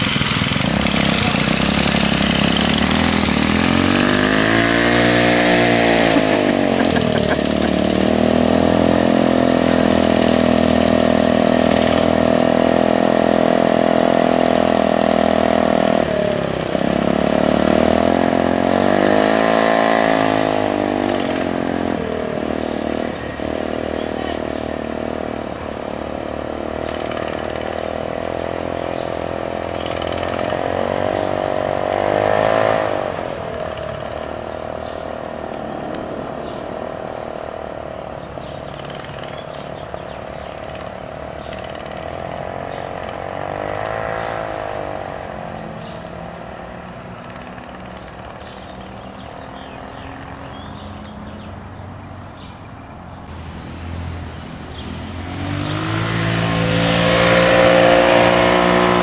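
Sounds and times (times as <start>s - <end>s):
small ride-on vehicle engine: 0.0s - 59.0s.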